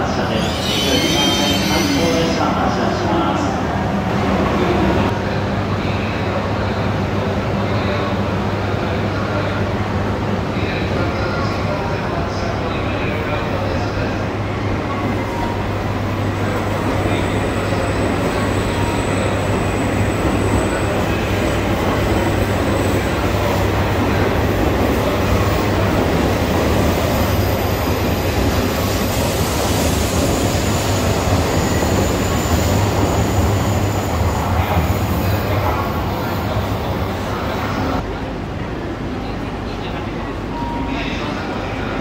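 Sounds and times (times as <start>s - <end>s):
high-speed train rolling past: 0.0s - 42.0s.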